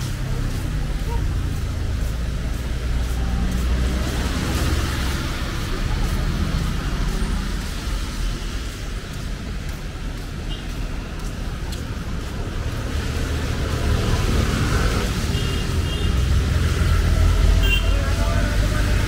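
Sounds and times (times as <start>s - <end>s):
vehicle engines rumbling: 0.0s - 19.0s.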